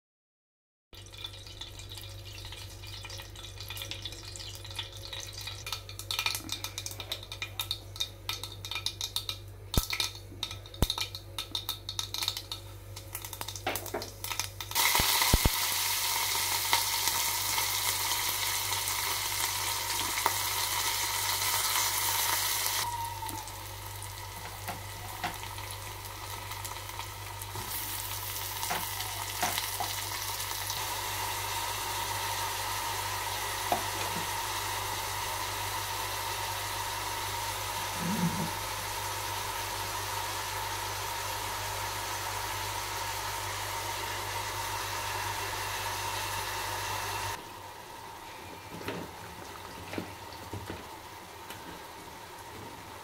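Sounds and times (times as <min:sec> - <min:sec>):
hot oil crackling and popping: 0:01.0 - 0:47.5, 0:48.8 - 0:53.0
onions sizzling in oil: 0:01.0 - 0:48.2.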